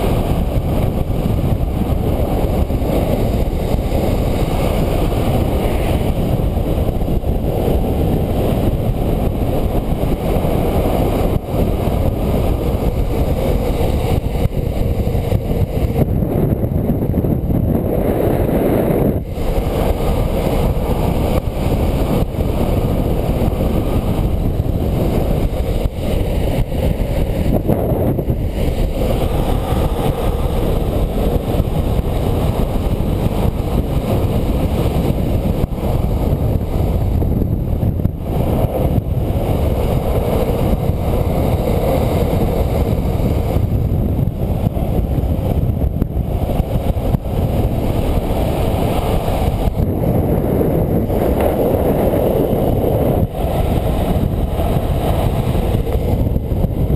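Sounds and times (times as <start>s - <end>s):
skateboard wheels rolling on asphalt: 0.0s - 56.9s
wind rushing over microphone: 0.0s - 56.9s.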